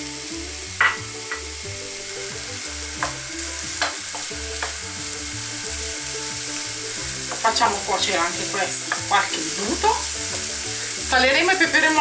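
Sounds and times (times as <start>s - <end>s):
vegetables sizzling in a pan: 0.0s - 12.0s
spatula stirring vegetables: 0.9s - 12.0s.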